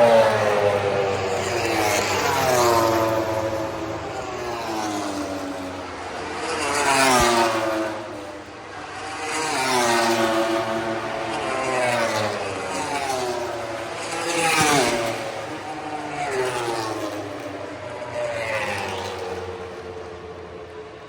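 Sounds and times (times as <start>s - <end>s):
motorcycles passing by: 0.0s - 21.0s.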